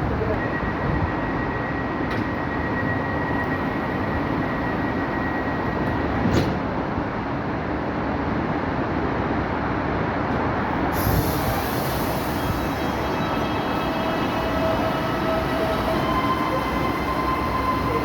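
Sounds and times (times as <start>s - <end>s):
electric train rumbling: 0.0s - 18.0s.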